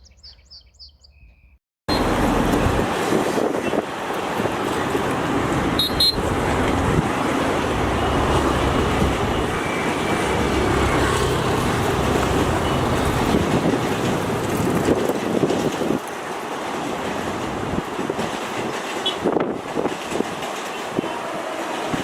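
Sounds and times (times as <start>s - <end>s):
freight train rumbling past: 1.9s - 22.0s.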